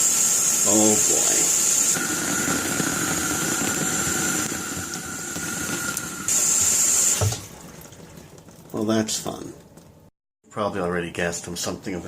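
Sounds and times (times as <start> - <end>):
water running from a tap: 0.0 - 9.7.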